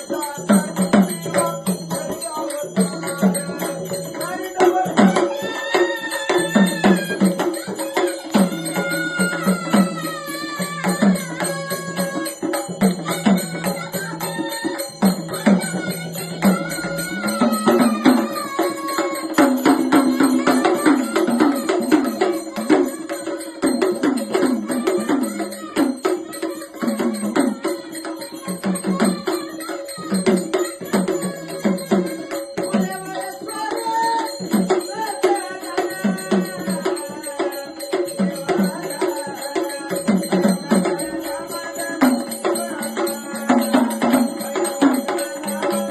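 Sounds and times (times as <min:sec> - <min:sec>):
fast dense percussion: 0:00.0 - 0:45.9.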